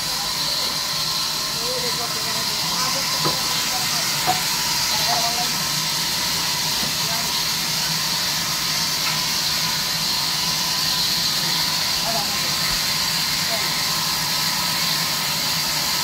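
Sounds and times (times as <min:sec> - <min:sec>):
band sawmill running: 0:00.0 - 0:16.0.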